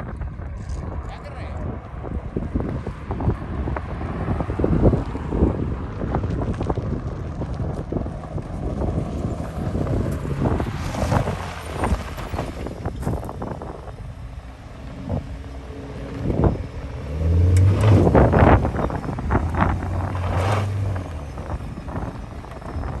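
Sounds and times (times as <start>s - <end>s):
car engine running: 2.0s - 23.0s.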